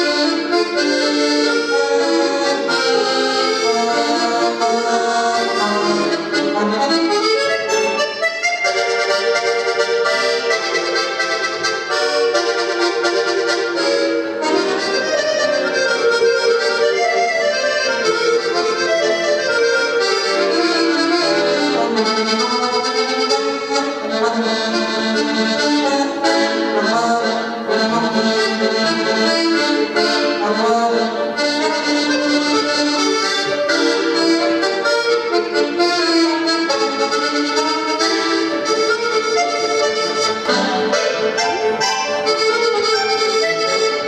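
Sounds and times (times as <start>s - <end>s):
accordion playing: 0.0s - 44.0s.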